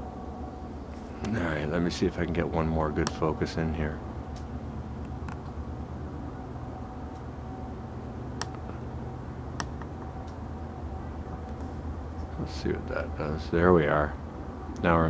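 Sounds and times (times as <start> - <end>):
faint steady hum: 0.0 - 15.0
low background rumble: 0.0 - 15.0.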